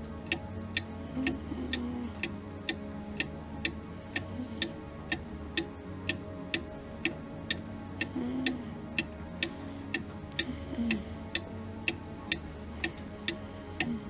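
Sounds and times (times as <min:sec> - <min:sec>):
clock ticking: 0:00.0 - 0:14.0
low steady hum: 0:00.0 - 0:14.0.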